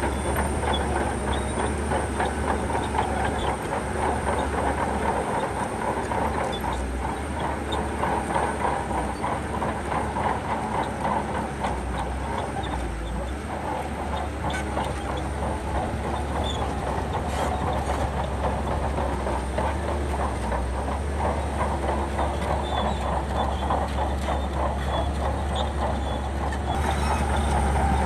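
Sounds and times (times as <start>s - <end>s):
diesel engine low drone: 0.0s - 28.0s
steel tracks clanking: 0.0s - 28.0s.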